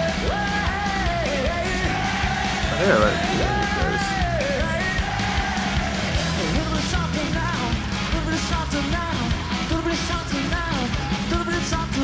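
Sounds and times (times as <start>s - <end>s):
rock music with singing: 0.0s - 12.0s
steady drumbeat: 0.0s - 12.0s.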